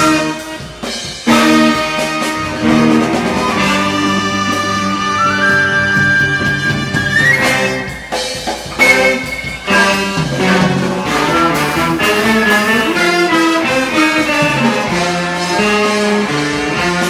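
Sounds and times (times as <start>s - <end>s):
horn section playing: 0.0s - 17.0s.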